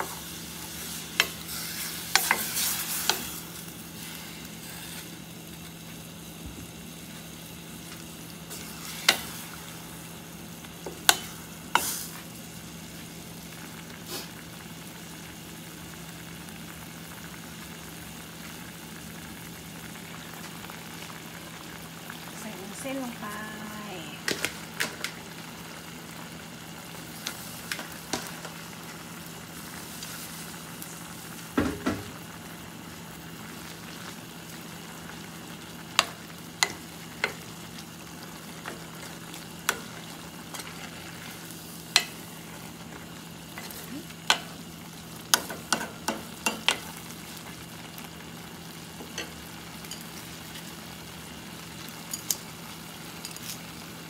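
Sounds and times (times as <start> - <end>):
curry sizzling in a pot: 0.0 - 54.0.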